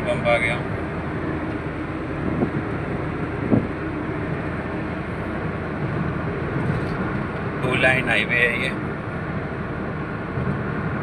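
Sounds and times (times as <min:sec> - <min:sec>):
vehicle driving on highway: 0:00.0 - 0:11.0.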